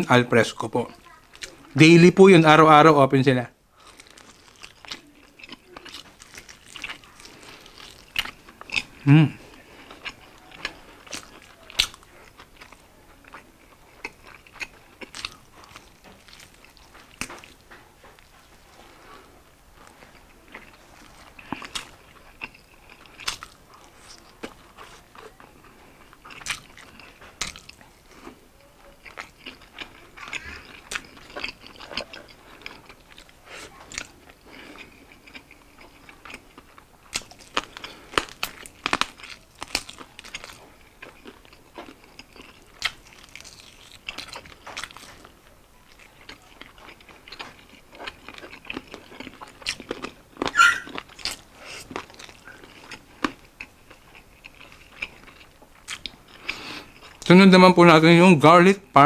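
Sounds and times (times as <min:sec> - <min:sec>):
chewing chicken wings: 0:03.8 - 0:57.3.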